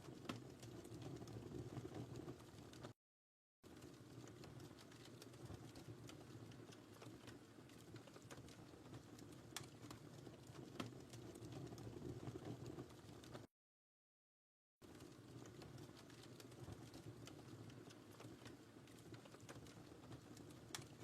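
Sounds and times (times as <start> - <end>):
wood fire crackling: 0.0 - 3.0, 3.7 - 13.5, 14.8 - 21.0.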